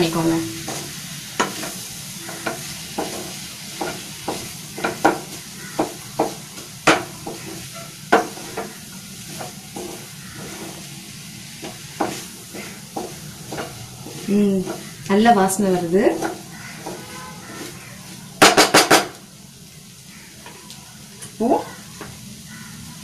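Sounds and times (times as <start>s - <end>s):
food sizzling in frying pan: 0.0s - 23.0s
spatula scraping and tapping pan: 0.6s - 19.2s.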